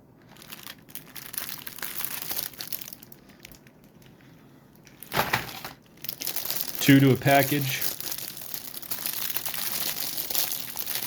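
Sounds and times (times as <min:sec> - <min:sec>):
plastic packaging crinkling: 0:00.2 - 0:11.0.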